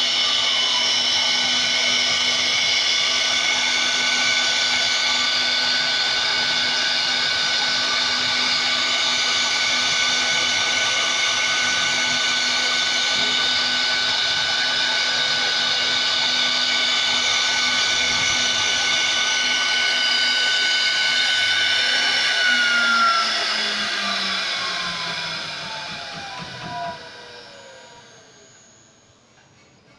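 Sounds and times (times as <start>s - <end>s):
router bit cutting wood: 0.0s - 29.2s
router spindle motor whining: 0.0s - 29.9s.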